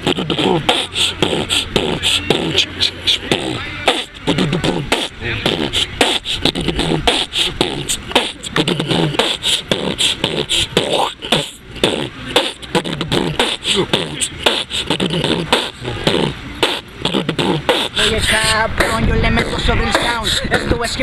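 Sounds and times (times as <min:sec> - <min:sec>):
person beatboxing: 0:00.0 - 0:21.0.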